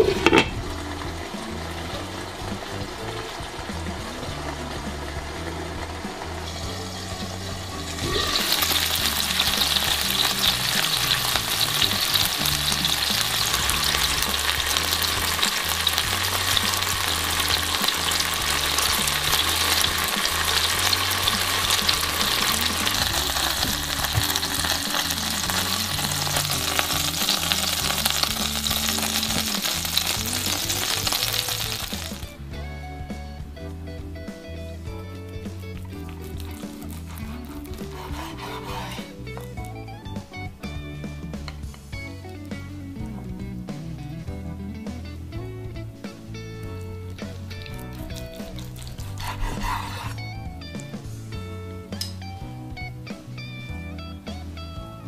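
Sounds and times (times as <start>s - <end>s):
chicken sizzling in a pan: 0.0s - 32.4s, 34.3s - 42.7s, 46.4s - 51.1s.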